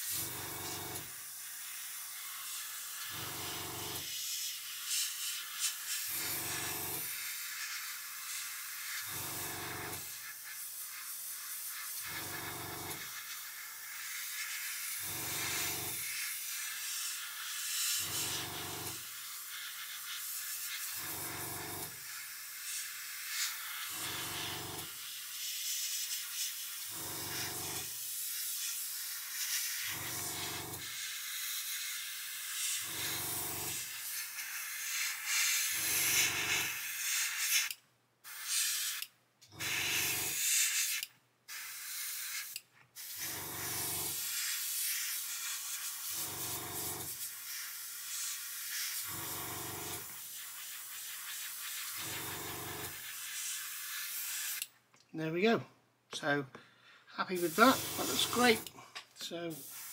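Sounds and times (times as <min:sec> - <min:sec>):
airbrush hissing: 0:00.0 - 0:54.7, 0:57.2 - 0:59.9.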